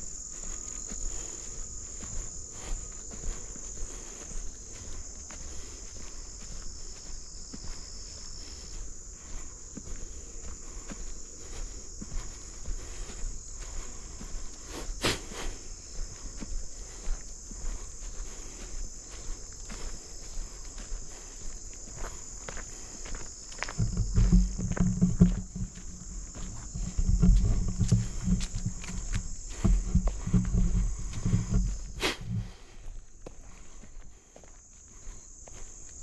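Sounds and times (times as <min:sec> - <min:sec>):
footsteps walking: 0:00.0 - 0:36.0
insects buzzing: 0:00.0 - 0:36.0.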